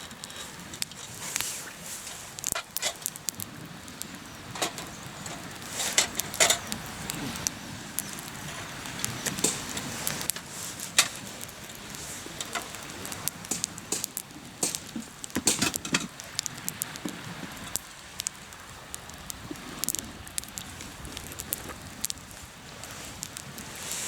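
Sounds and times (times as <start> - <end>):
campfire crackling and popping: 0.0 - 24.0
hiss of burning wood: 0.0 - 24.0
sharp snaps of burning wood: 0.0 - 24.0.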